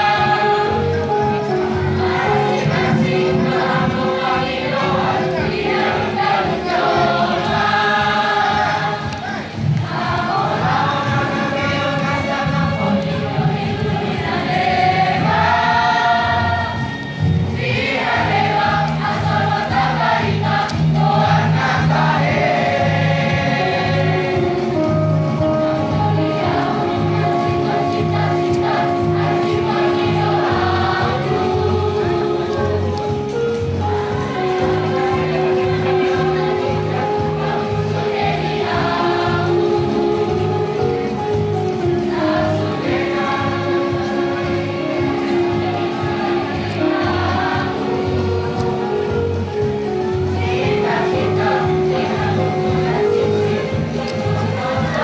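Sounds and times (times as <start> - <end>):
children's choir singing in harmony: 0.0 - 55.0
low pulsing accompaniment: 0.0 - 55.0.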